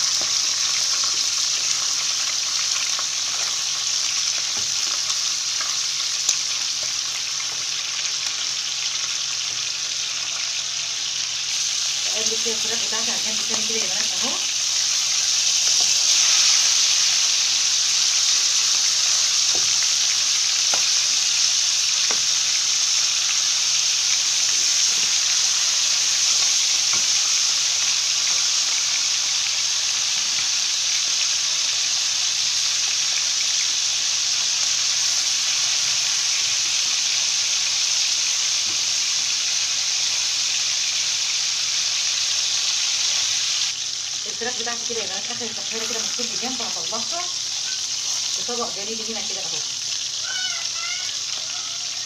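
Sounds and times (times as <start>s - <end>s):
chicken sizzling in hot oil: 0.0s - 52.0s.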